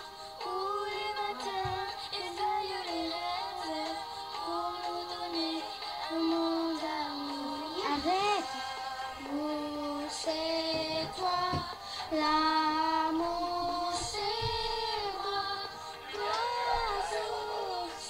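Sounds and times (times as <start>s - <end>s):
girl singing: 0.0s - 18.0s.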